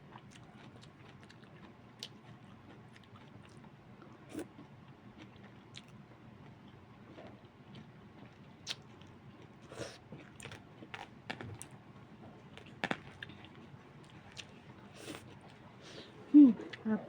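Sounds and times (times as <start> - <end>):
person chewing food: 0.1 - 11.7, 12.5 - 15.6.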